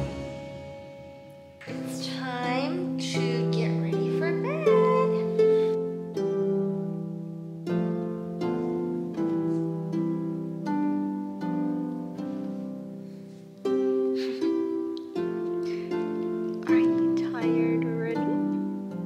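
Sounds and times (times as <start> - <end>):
slow plucked-string music: 0.0 - 19.0.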